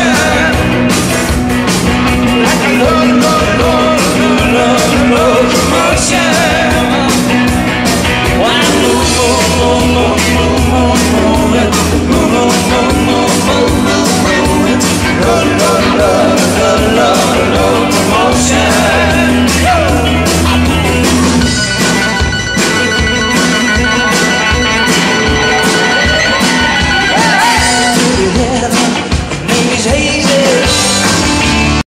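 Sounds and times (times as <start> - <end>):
bass guitar: 0.0 - 31.8
electric guitars: 0.0 - 31.8
steady drum beat: 0.0 - 31.8.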